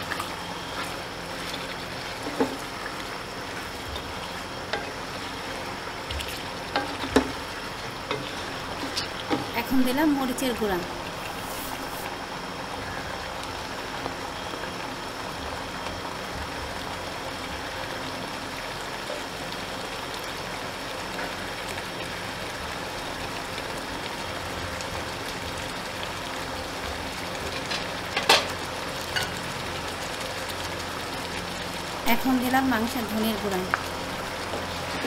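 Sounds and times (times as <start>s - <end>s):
chicken frying in oil: 0.0s - 35.0s.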